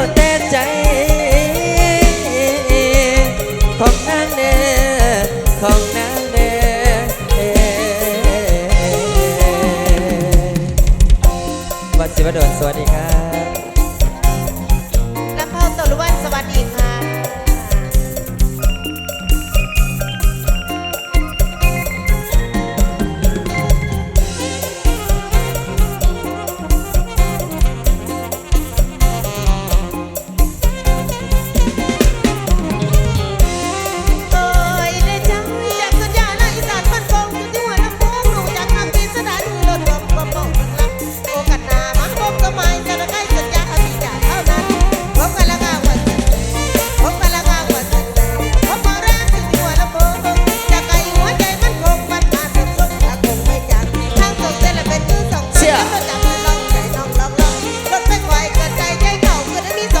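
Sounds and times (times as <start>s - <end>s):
live band music: 0.0s - 60.0s
pounding bass and drum beat: 0.0s - 60.0s.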